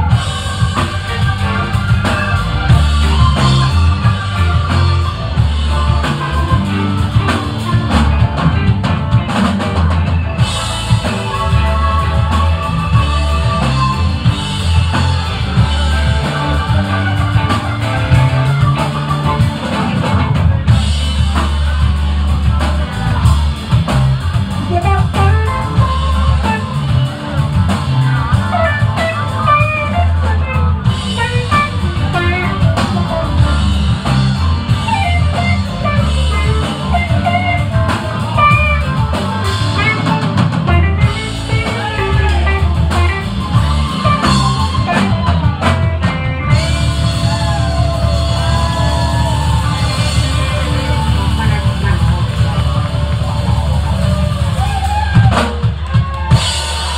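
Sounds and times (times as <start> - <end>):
drum kit: 0.0 - 56.9
electric guitars: 0.0 - 56.9.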